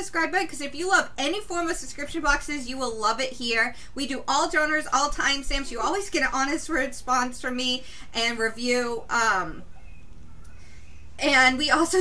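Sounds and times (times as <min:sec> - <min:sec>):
woman speaking: 0:00.0 - 0:09.7, 0:11.2 - 0:12.0
faint low room hum: 0:00.0 - 0:12.0.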